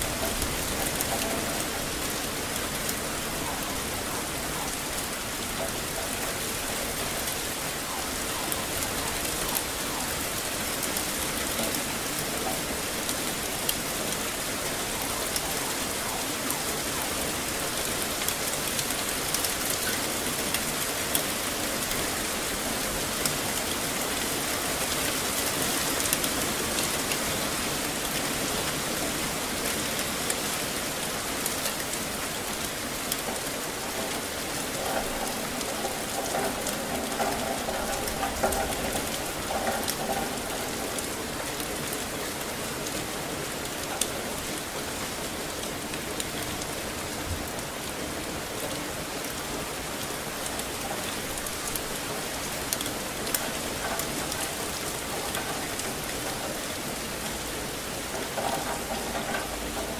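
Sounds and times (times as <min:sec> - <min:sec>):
rain falling: 0:00.0 - 0:59.9
raindrop ticks: 0:00.0 - 0:59.9.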